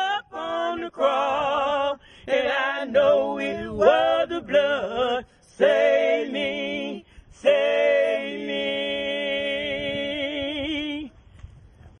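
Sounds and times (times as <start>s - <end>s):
gospel voices singing unaccompanied: 0.0s - 11.2s.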